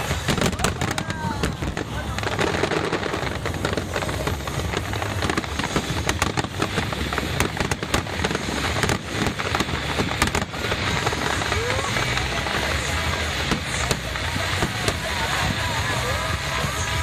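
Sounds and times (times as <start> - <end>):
fireworks crackling and popping: 0.0 - 17.0
low rumble of fireworks: 0.0 - 17.0.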